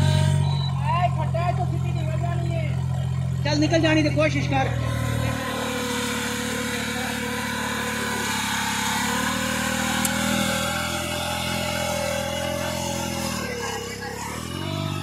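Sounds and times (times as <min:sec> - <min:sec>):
small engine running hard: 0:00.0 - 0:15.0.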